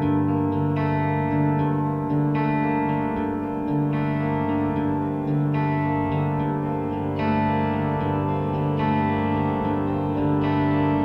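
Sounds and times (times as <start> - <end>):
electric guitar with effects: 0.0 - 11.0.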